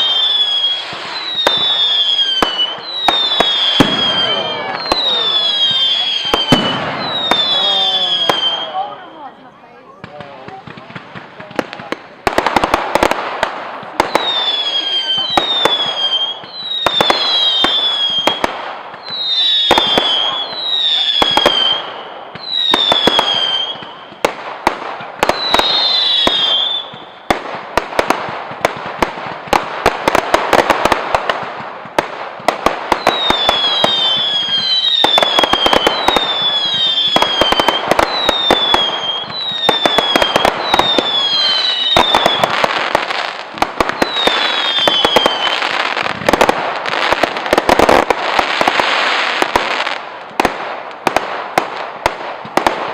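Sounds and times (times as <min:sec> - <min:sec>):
dense fireworks crackling: 0:00.0 - 0:52.9
fireworks cracking and banging: 0:00.0 - 0:52.9
whistling fireworks: 0:00.0 - 0:52.9.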